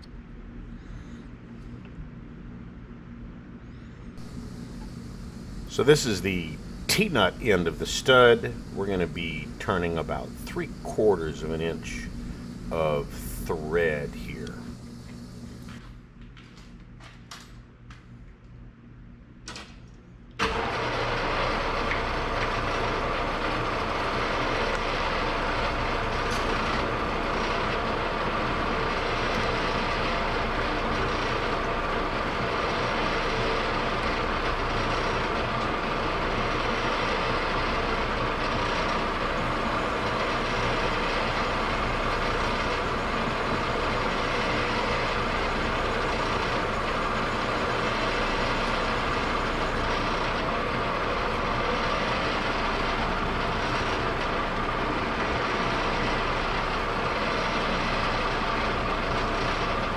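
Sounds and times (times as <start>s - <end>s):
metal lathe running: 4.2s - 15.8s, 20.4s - 59.9s.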